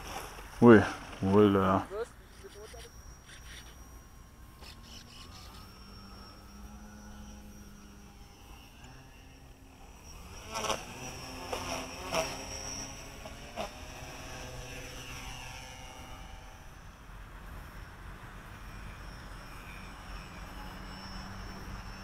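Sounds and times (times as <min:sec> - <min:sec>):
model plane electric motor whine: 0:00.0 - 0:22.0.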